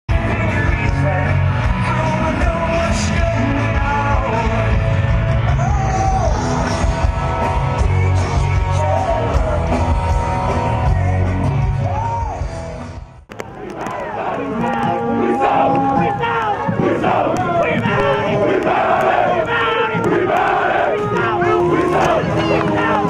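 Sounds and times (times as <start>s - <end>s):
rock music with singing: 0.1s - 23.0s.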